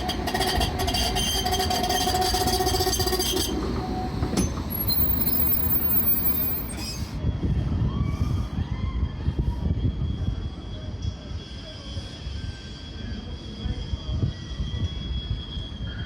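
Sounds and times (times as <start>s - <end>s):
wheels rumbling on rail: 0.0s - 12.9s
tram whine: 0.0s - 16.0s.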